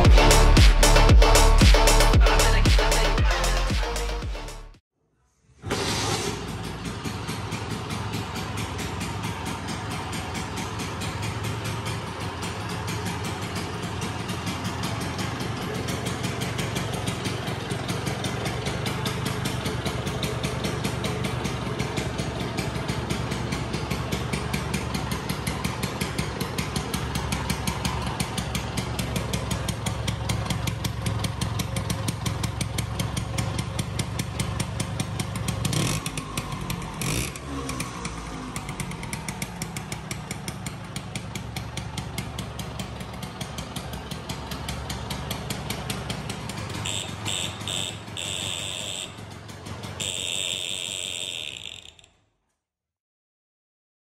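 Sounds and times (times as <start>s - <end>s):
scooter engine idling: 0.0s - 4.7s, 6.0s - 52.2s.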